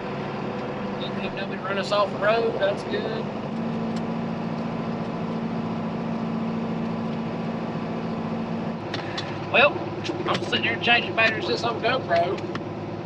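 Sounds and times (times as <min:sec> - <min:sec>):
tractor diesel engine drone: 0:00.0 - 0:13.0.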